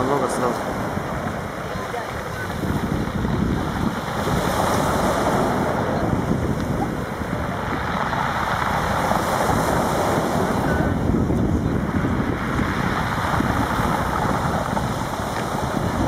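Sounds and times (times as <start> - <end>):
choppy sea waves: 0.0 - 16.0
wind buffeting microphone: 0.0 - 16.0.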